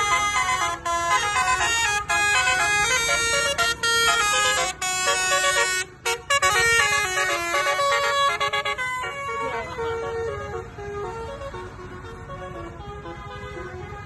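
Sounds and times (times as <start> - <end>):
musical bus air horn melody: 0.0 - 14.0.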